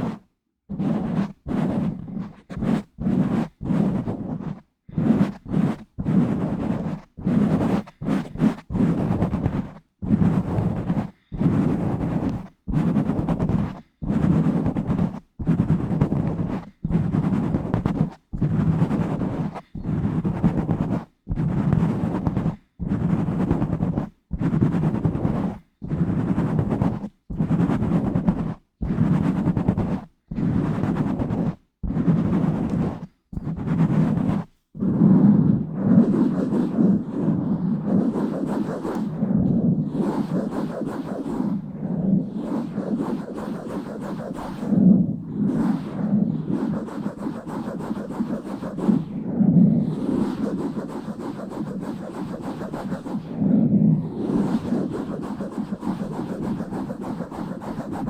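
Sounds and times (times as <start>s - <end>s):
hands rubbing on microphone: 0.0s - 58.0s.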